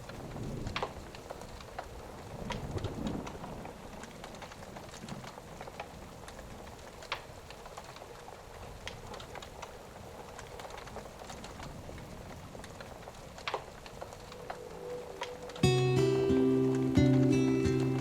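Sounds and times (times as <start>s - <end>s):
thunder rumble: 0.0s - 7.5s, 8.3s - 18.0s
steady rain: 0.0s - 18.0s
wood fire crackling: 0.0s - 18.0s.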